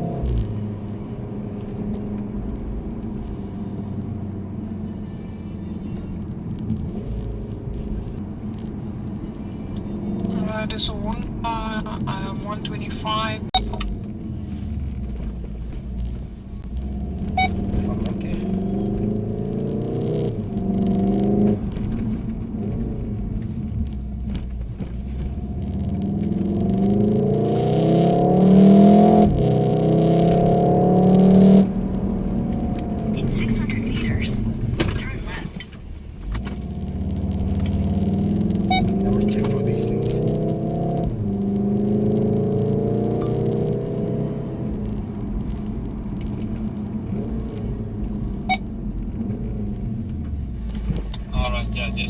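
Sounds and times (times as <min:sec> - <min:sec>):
car engine and tyre drone: 0:00.0 - 0:52.0.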